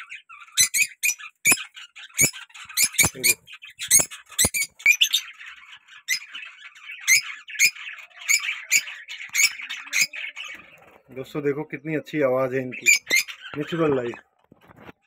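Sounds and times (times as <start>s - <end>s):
birds squawking: 0.0s - 11.4s, 12.3s - 14.3s
birds chattering: 0.0s - 15.0s.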